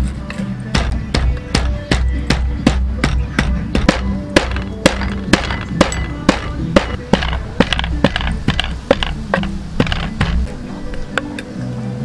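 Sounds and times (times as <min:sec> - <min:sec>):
background music: 0:00.0 - 0:12.0
pestle pounding in wooden mortar: 0:00.8 - 0:10.5.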